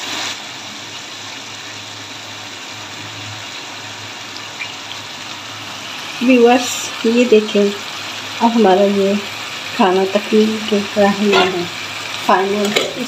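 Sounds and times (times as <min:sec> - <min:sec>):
curry simmering and sizzling: 0:00.0 - 0:13.0.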